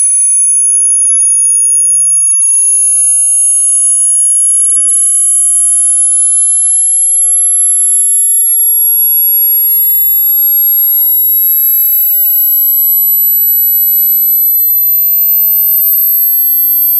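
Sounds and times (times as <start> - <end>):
high-pitched rising sine tone: 0.0 - 16.9.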